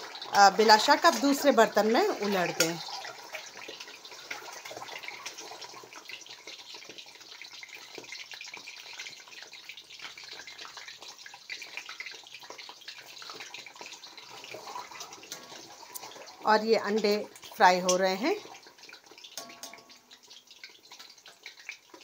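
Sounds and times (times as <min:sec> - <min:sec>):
oil sizzling and crackling: 0:00.0 - 0:22.0.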